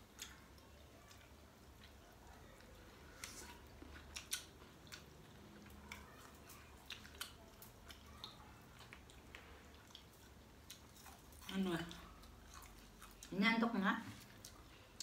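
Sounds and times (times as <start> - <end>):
chewing: 0.0 - 13.4, 14.0 - 15.0.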